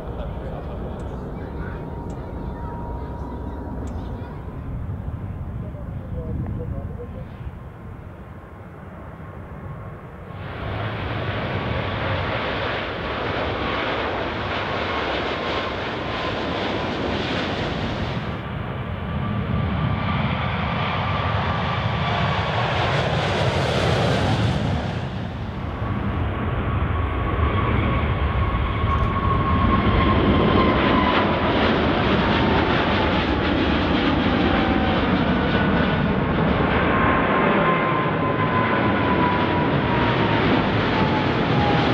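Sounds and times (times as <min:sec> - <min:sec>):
jet engines rumbling and whining: 0:00.0 - 0:41.9.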